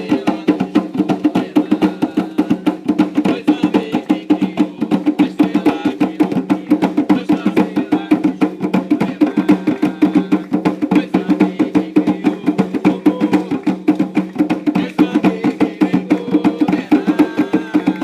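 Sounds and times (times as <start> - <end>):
fast ritual hand drumming: 0.0 - 18.0.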